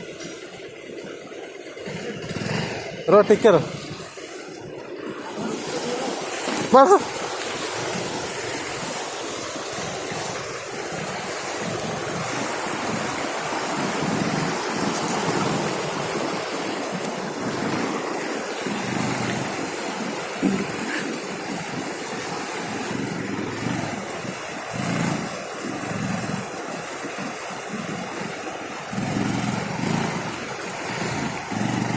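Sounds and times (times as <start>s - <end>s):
wind buffeting microphone: 3.6s - 31.9s.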